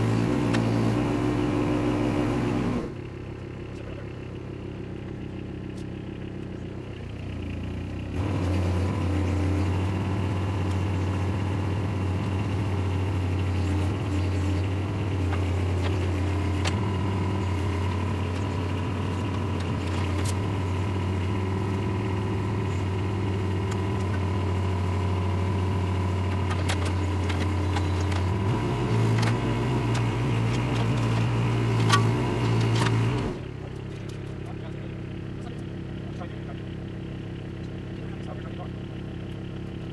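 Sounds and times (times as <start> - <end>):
loader diesel engine running: 0.0 - 39.9.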